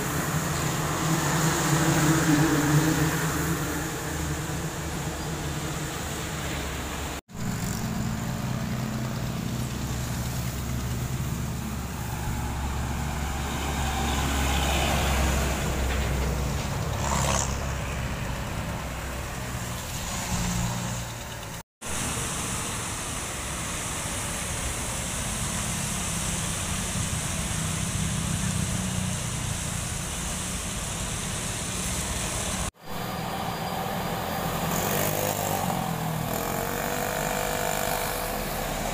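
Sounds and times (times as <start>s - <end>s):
traffic on a wet road: 0.0s - 38.9s.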